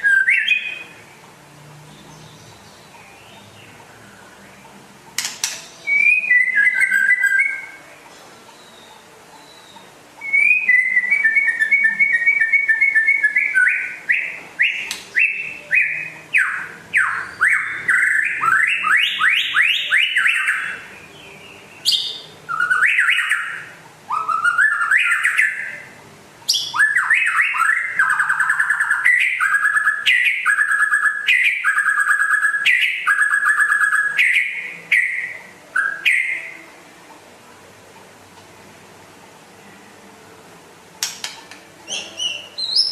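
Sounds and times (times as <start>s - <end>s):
songbird singing: 0.0s - 36.8s, 41.0s - 42.9s.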